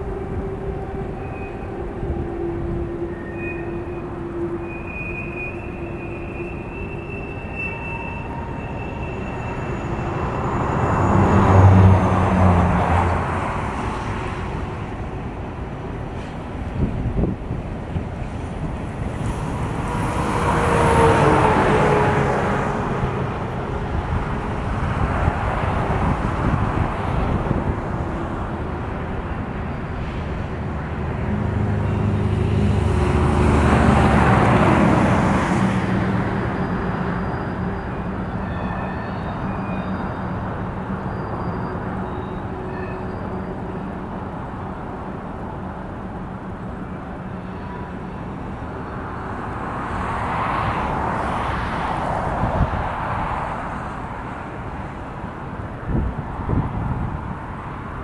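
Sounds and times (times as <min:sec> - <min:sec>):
freight train rumbling: 0:00.0 - 0:58.0
road traffic: 0:00.0 - 0:58.0.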